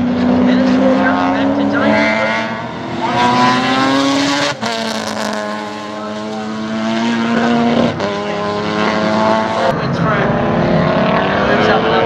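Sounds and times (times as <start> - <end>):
racing car engines at full throttle: 0.0 - 12.0.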